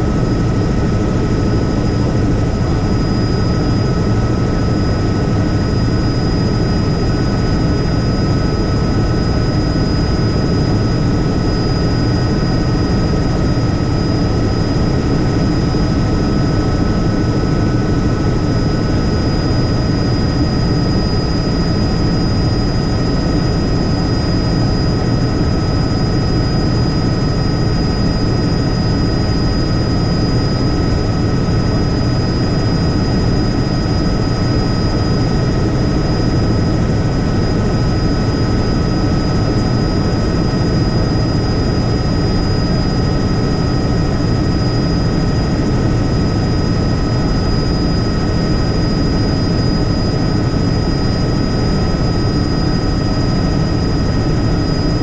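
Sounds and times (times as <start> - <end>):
helicopter drone: 0.0 - 55.0.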